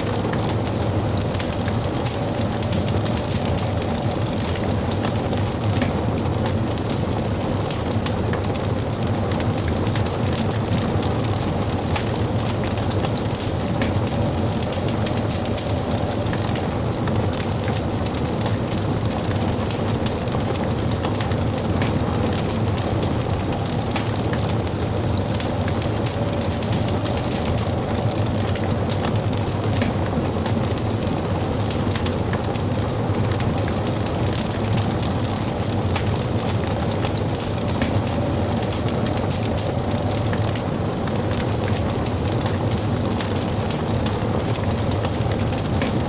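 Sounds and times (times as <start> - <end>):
fire popping: 0.0 - 46.0
wood fire crackling: 0.0 - 46.0.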